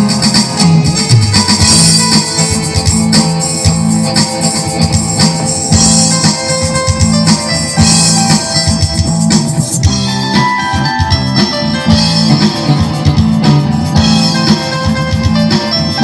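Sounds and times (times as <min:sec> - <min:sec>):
bass line: 0:00.0 - 0:16.0
held instrumental notes: 0:00.0 - 0:16.0
percussion strokes: 0:00.0 - 0:16.0.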